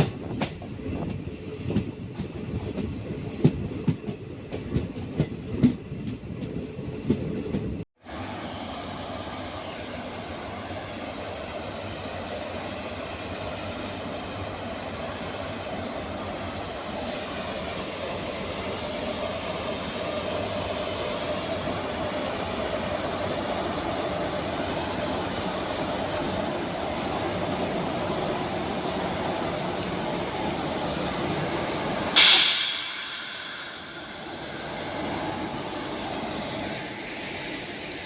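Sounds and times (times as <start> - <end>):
train coach running on track: 0.0 - 38.0.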